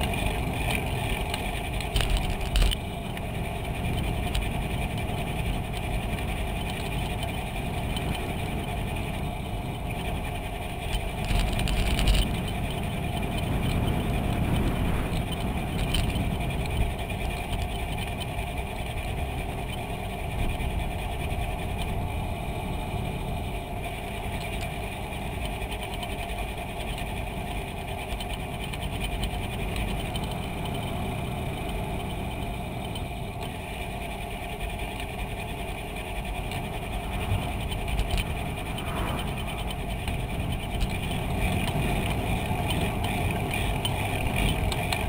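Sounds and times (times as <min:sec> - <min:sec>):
faint steady hum: 0:00.0 - 0:45.0
tyres on asphalt: 0:00.0 - 0:45.0
wind rumble: 0:00.0 - 0:45.0.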